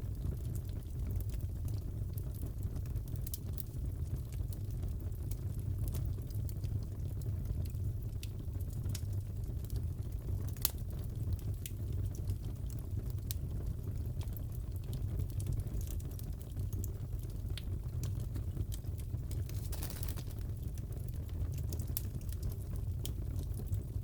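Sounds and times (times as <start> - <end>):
fireplace crackling and popping: 0.0 - 24.0
low roar of burning wood: 0.0 - 24.0.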